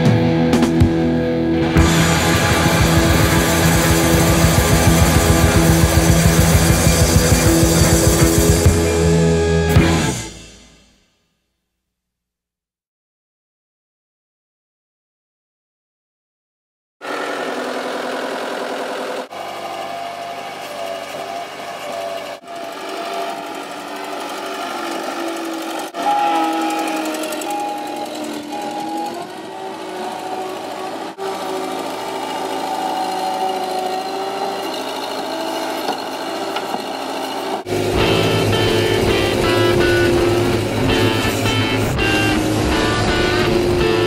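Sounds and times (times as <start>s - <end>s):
skid steer diesel engine: 0.0s - 10.6s, 17.0s - 44.0s.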